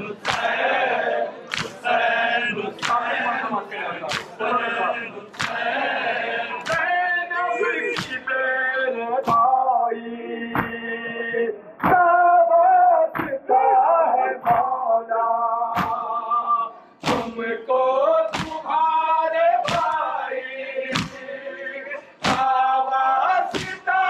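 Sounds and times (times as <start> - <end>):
crowd beating chests in unison: 0.0 - 9.7, 10.4 - 11.0, 11.8 - 13.5, 14.4 - 14.9, 15.6 - 16.4, 17.0 - 24.0
man singing a lament: 1.8 - 24.0.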